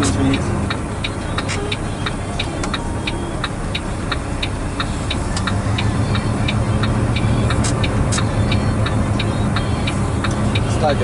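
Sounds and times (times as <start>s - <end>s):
truck engine humming: 0.0s - 11.0s.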